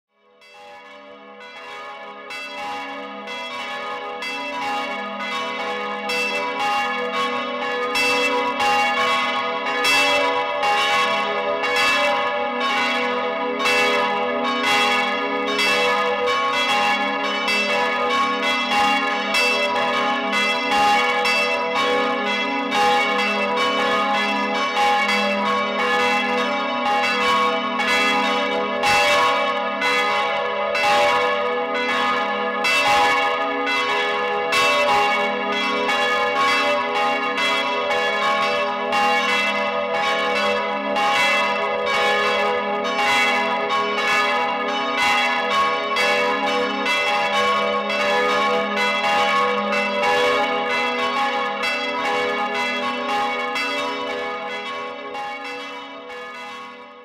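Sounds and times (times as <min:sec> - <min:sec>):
church bells ringing: 0:00.4 - 0:57.0.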